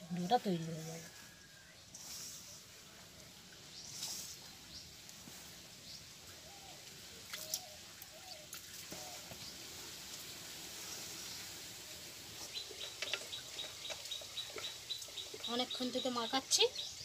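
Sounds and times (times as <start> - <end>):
small birds chirping: 0.0 - 10.0, 10.8 - 17.0.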